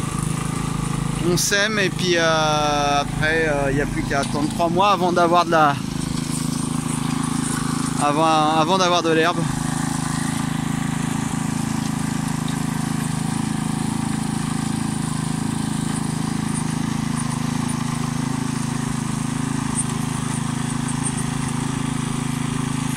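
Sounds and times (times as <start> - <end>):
tiller engine running: 0.0 - 22.9
tines churning soil: 0.0 - 22.9.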